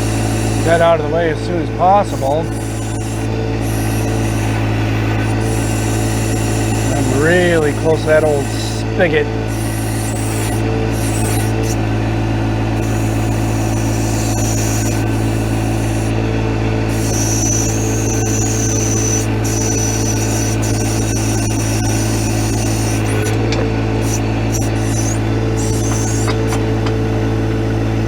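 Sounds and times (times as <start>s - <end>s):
high hydraulic whine: 0.0s - 28.0s
tractor diesel engine running: 0.0s - 28.0s.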